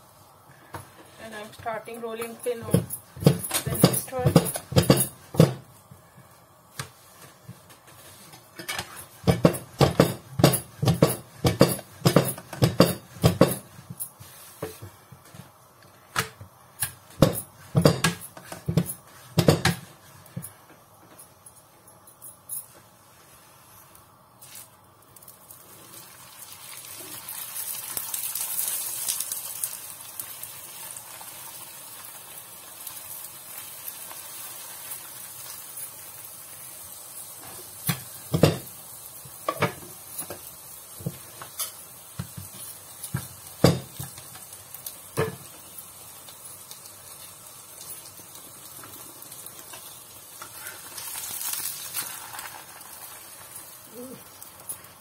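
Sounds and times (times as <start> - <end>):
flatbread sizzling in oil: 0.0 - 21.4, 22.4 - 55.0.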